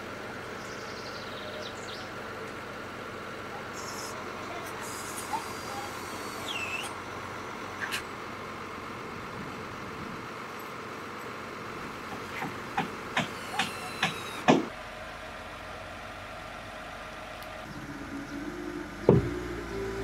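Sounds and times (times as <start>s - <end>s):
machinery hum: 0.0s - 10.5s, 11.2s - 20.0s.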